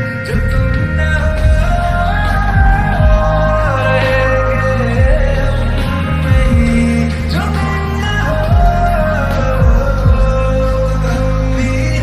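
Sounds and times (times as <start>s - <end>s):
bass and kick drum beats: 0.0s - 12.0s
person singing pop song: 0.0s - 12.0s.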